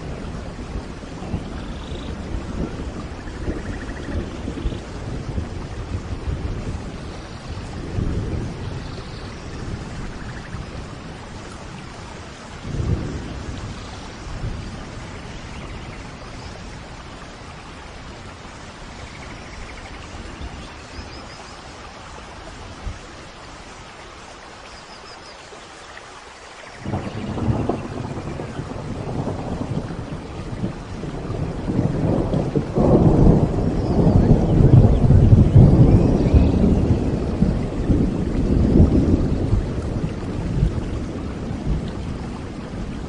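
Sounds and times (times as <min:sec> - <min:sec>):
rolling thunder: 0:00.0 - 0:21.3, 0:26.8 - 0:43.0
steady rain: 0:00.0 - 0:43.0.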